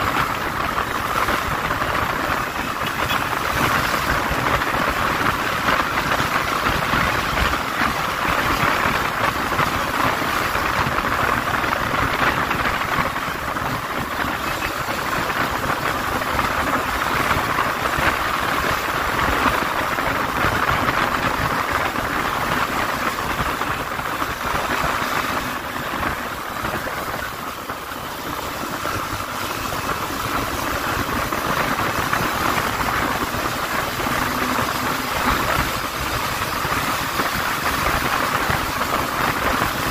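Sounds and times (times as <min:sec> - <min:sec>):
wind and road noise: 0:00.0 - 0:39.9
motorcycle engine running: 0:00.1 - 0:39.9.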